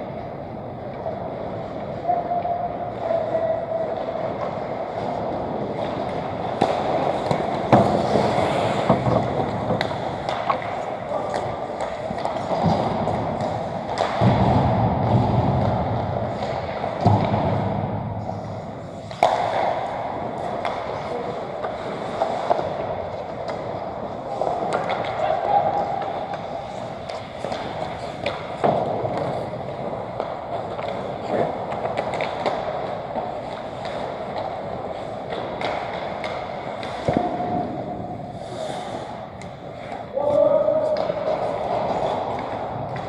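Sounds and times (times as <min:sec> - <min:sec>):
hockey sticks and puck clacking: 0:00.0 - 0:43.0
skate blades scraping ice: 0:00.2 - 0:43.0.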